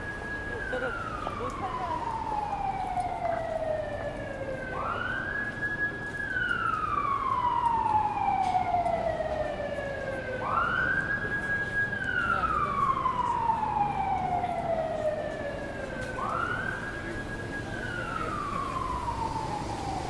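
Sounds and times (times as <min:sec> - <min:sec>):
city background noise: 0:00.0 - 0:20.0
emergency vehicle siren wailing: 0:00.0 - 0:20.0.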